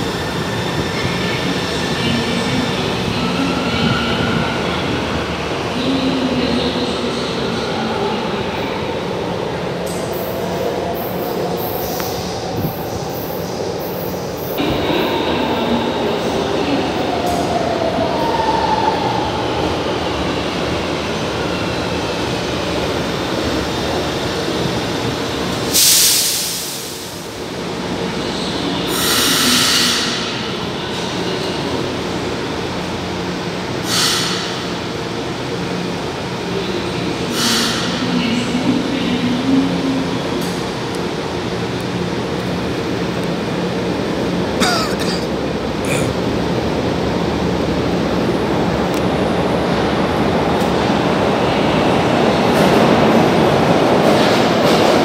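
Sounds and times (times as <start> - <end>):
metro train rumbling: 0.0 - 55.0.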